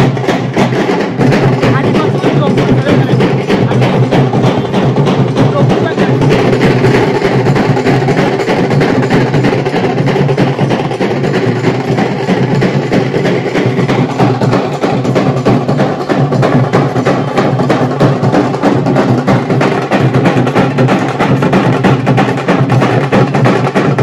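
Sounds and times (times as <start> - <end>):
barrel drums playing fast rhythm: 0.0 - 24.0.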